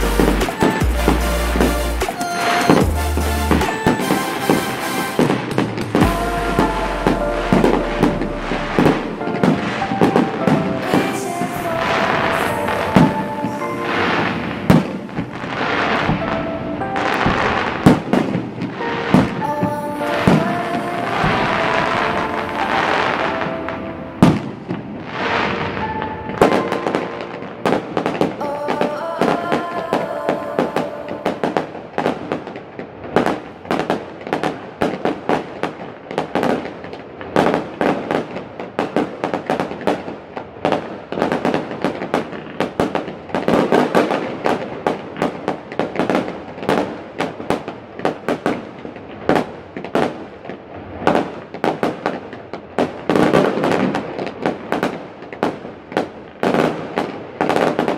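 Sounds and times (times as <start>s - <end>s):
fireworks bursting: 0.0s - 57.9s.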